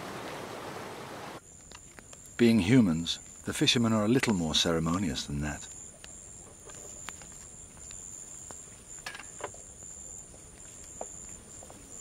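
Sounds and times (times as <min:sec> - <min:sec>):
insect chorus chirring: 0:01.4 - 0:12.0.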